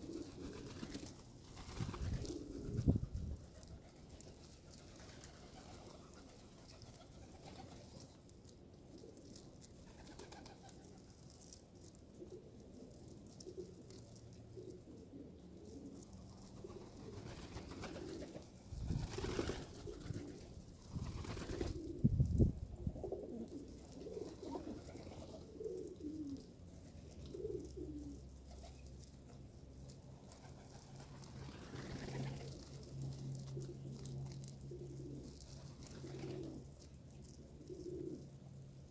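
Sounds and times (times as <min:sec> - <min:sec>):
pigeons cooing: 0:00.0 - 0:08.0, 0:12.1 - 0:38.9.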